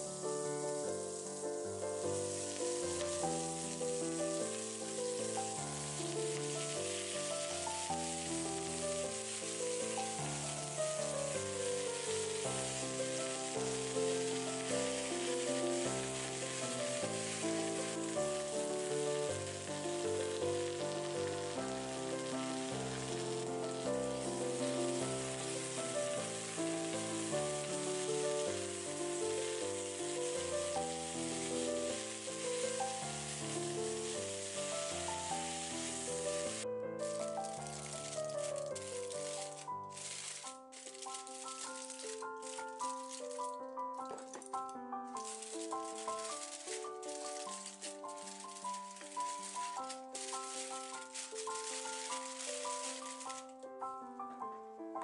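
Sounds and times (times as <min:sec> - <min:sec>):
spinach sizzling in skillet: 0:00.0 - 0:54.0
background music: 0:00.0 - 0:55.0.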